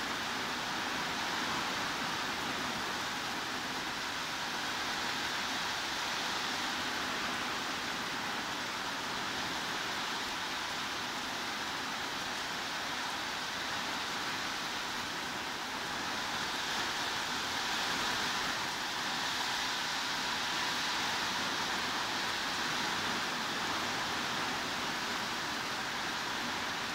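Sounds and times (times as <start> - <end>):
heavy rain hissing: 0.0 - 26.9.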